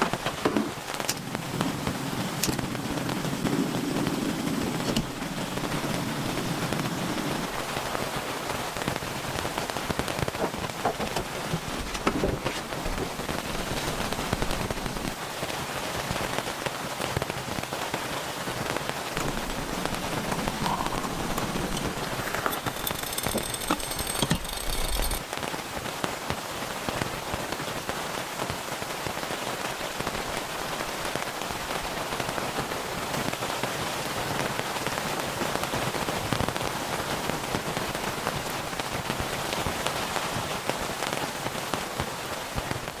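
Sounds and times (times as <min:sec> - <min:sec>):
steady rain patter: 0:00.0 - 0:43.0.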